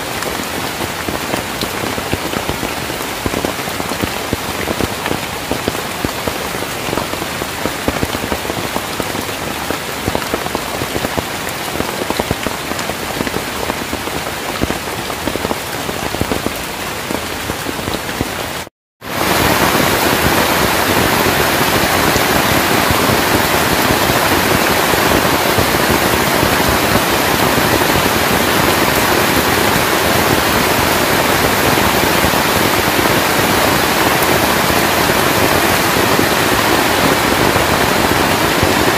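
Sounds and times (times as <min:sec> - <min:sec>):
heavy rain on foliage: 0:00.0 - 0:38.9.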